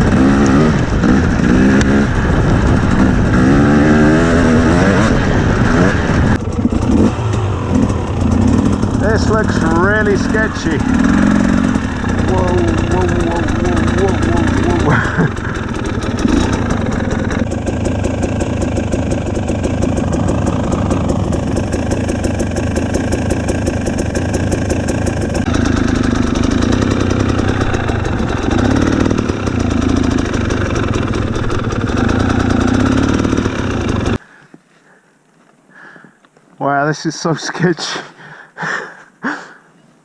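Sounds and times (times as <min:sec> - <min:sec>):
two-stroke motorcycle engine: 0:00.0 - 0:34.2.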